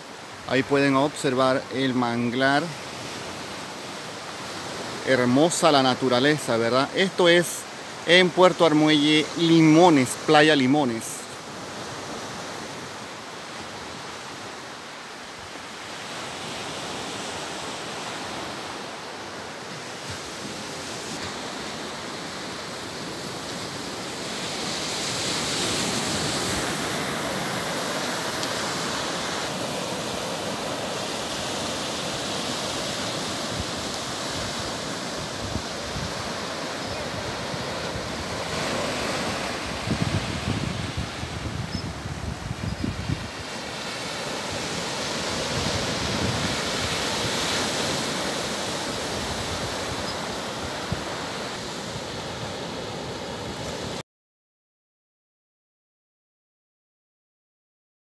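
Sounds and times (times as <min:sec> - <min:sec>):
ocean surf breaking: 0:00.0 - 0:54.0.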